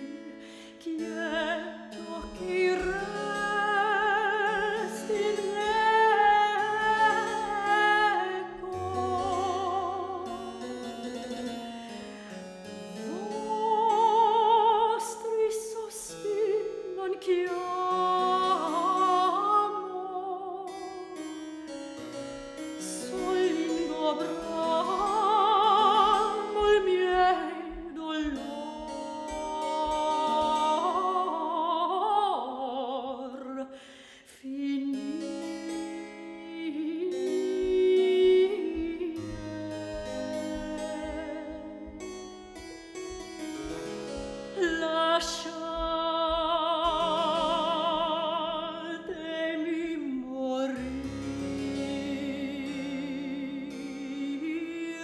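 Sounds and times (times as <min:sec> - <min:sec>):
soprano singing with vibrato: 0:00.0 - 0:10.7, 0:13.0 - 0:21.1, 0:22.8 - 0:42.0, 0:44.5 - 0:55.0
harpsichord: 0:01.2 - 0:15.3, 0:15.9 - 0:32.5, 0:34.9 - 0:49.5, 0:50.7 - 0:55.0.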